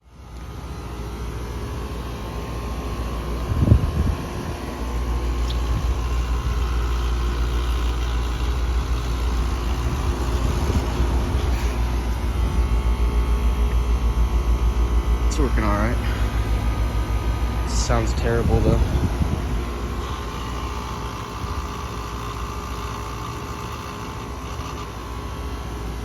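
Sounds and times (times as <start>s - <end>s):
air conditioner hum: 0.0s - 26.0s
rough mechanical compressor noise: 0.0s - 26.0s.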